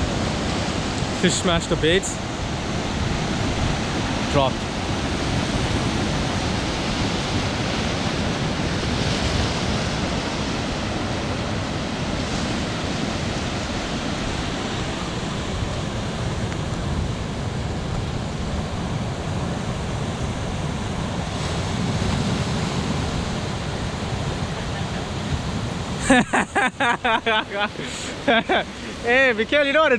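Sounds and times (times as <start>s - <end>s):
wind on microphone: 0.0s - 26.1s
ocean surf on rocky shore: 0.0s - 29.9s.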